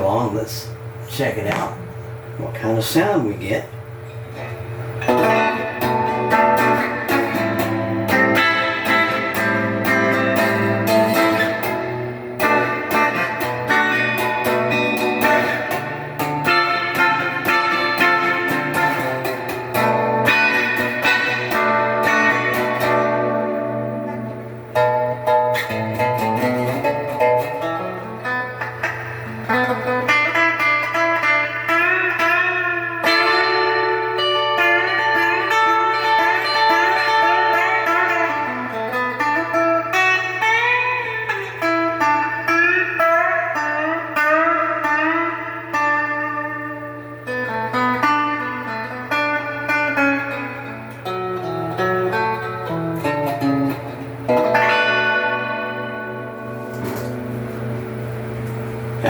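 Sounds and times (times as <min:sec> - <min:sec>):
amplifier low hum: 0:00.0 - 0:59.0
electric guitar notes and chords: 0:03.7 - 0:59.0.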